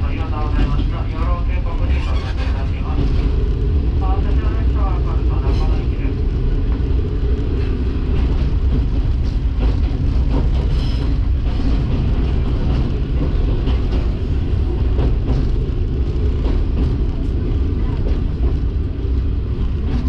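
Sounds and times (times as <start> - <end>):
railcar rumbling on rails: 0.0 - 20.0.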